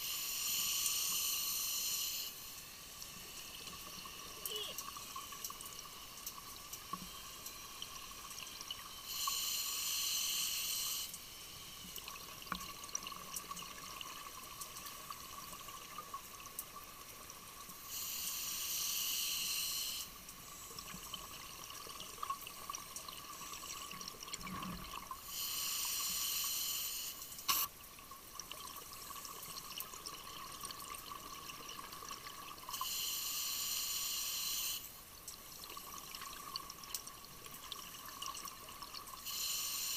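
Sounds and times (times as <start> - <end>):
faint steady tone: 0.0 - 39.9.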